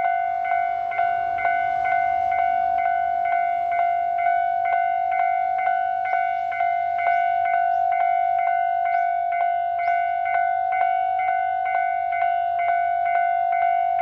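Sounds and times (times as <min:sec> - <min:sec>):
level-crossing warning bell ringing: 0:00.0 - 0:14.0.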